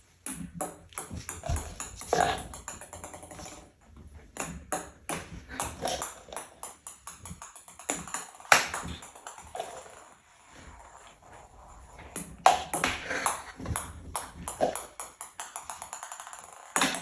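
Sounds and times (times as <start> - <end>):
ping-pong ball bouncing: 0.1 - 17.0.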